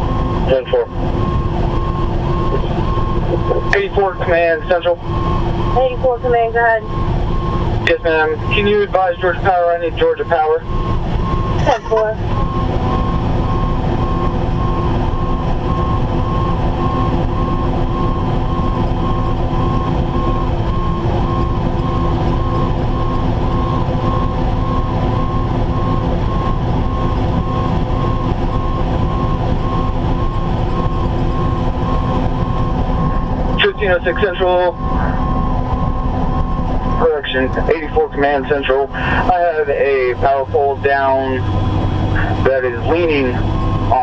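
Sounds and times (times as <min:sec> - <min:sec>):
engine and road rumble: 0:00.0 - 0:44.0
warning beeper: 0:00.0 - 0:44.0.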